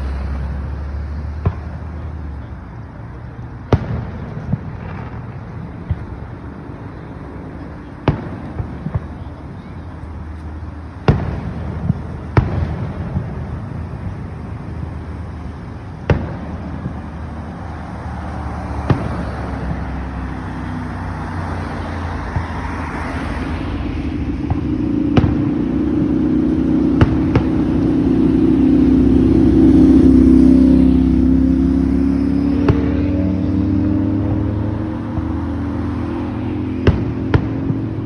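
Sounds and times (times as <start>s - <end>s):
distant fireworks bangs: 0.0s - 2.4s, 3.6s - 33.6s, 34.2s - 38.0s
vehicle engine hum: 0.0s - 38.0s.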